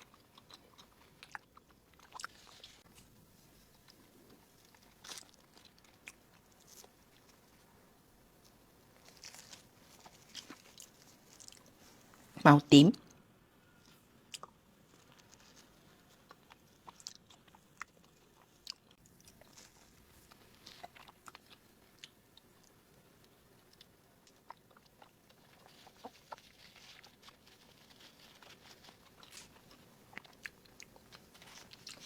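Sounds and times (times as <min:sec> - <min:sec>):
chewing soft sticky food: 0:00.0 - 0:12.4, 0:13.0 - 0:32.0.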